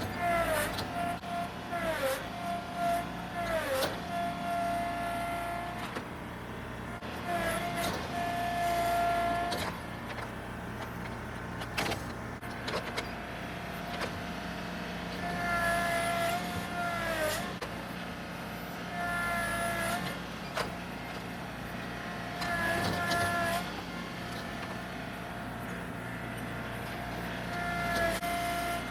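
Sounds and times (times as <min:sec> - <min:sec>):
tractor engine under load: 0:00.0 - 0:28.9.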